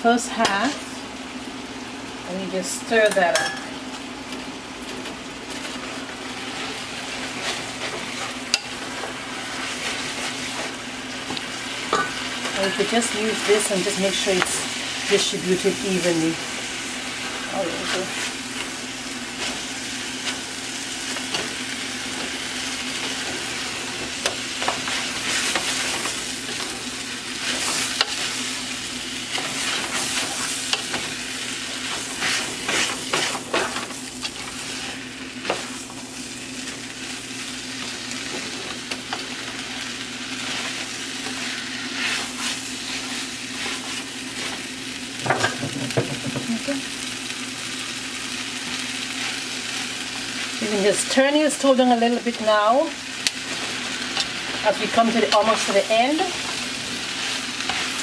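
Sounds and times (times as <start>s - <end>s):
noodles sizzling in a pot: 0.0s - 58.0s.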